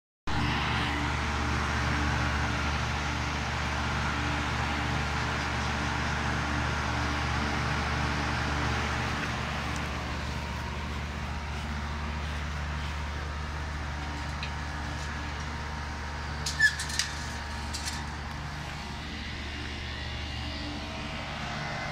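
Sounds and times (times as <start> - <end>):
fan rushing: 0.3 - 21.9.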